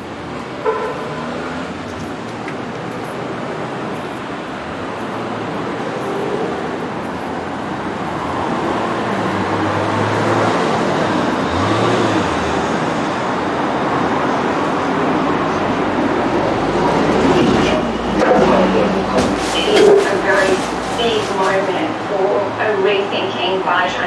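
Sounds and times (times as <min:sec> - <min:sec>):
vehicle engine hum passing: 0:00.0 - 0:22.6
street traffic noise: 0:00.0 - 0:24.0.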